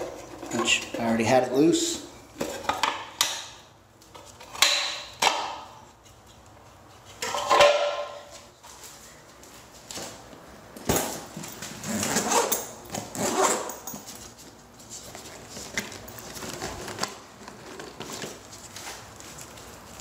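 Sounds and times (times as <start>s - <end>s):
rustling and clattering tools: 0.0s - 3.5s, 4.1s - 9.1s, 10.8s - 20.0s.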